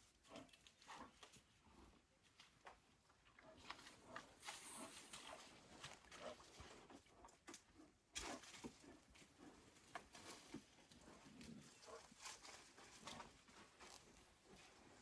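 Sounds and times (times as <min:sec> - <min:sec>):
bear feeding crunches and rustles: 0:02.3 - 0:15.0.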